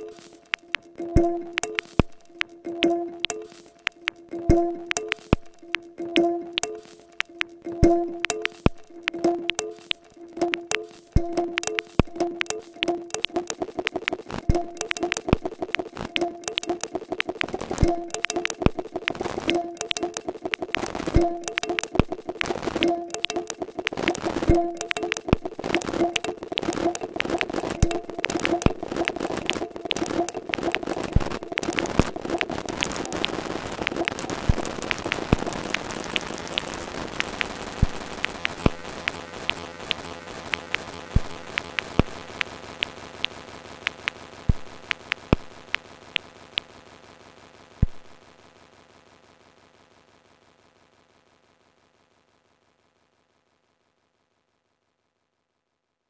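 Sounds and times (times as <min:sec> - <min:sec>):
sustained pitched electronic tones: 0:00.0 - 0:46.3
crackle of sharp electronic clicks: 0:00.0 - 0:51.8.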